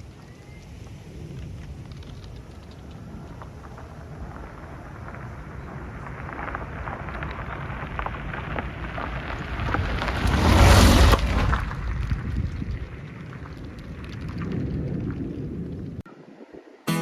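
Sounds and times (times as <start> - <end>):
rain falling: 0.0 - 16.0
thunder rumbling and crashing: 1.0 - 16.0.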